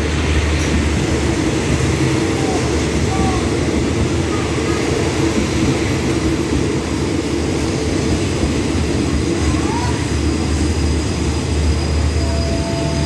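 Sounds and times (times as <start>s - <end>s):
diesel train engine drone: 0.0s - 13.0s.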